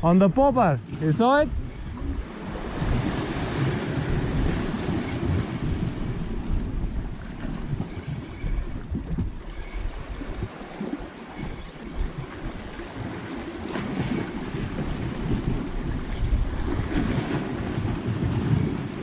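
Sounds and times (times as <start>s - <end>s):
sea surf: 0.0s - 19.0s
wind buffeting microphone: 0.0s - 19.0s.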